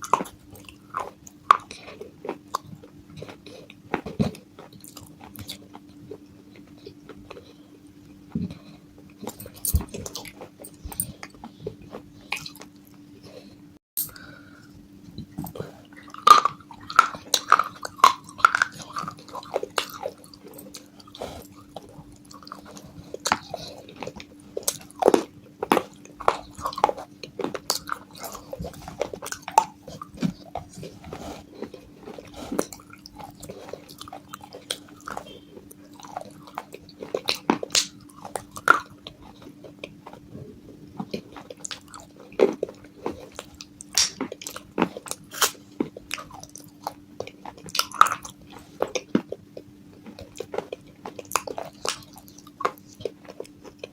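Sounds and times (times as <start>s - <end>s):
biting and chewing clay pieces: 0.0s - 13.5s, 15.1s - 53.9s
faint low hum: 0.0s - 53.9s.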